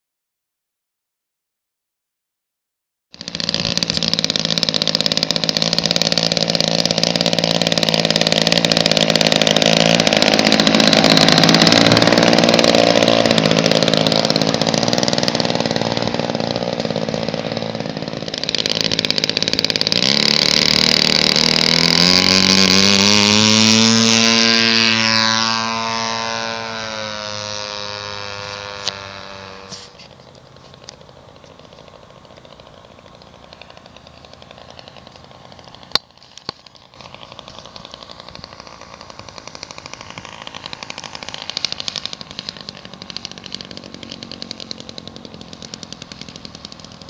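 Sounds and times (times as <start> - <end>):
model plane engine running: 3.2 - 47.0.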